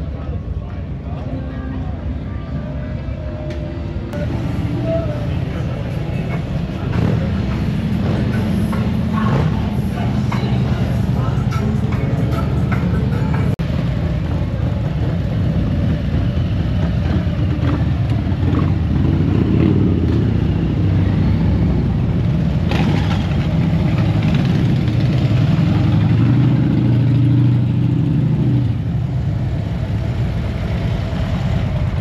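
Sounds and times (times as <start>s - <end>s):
motorcycle engines revving: 2.8s - 32.0s.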